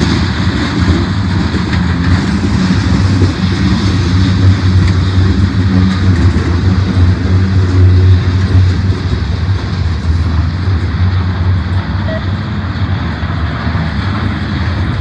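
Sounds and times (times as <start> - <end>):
diesel locomotives droning: 0.0 - 15.0.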